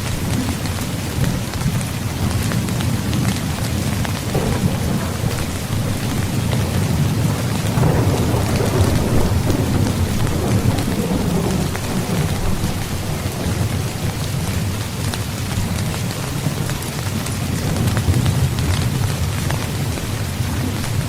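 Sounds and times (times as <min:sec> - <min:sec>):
heavy rain falling: 0:00.0 - 0:21.0
rolling thunder rumble: 0:00.0 - 0:21.0.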